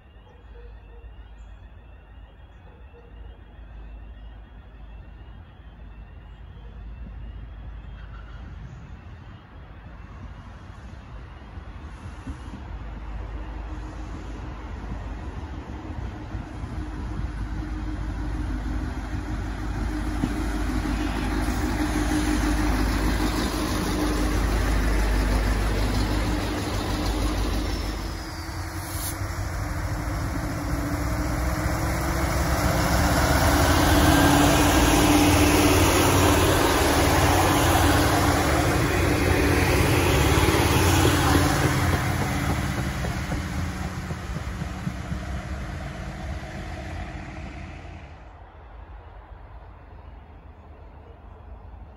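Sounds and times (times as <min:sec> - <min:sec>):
diesel railcar engines running: 0:00.0 - 0:51.9.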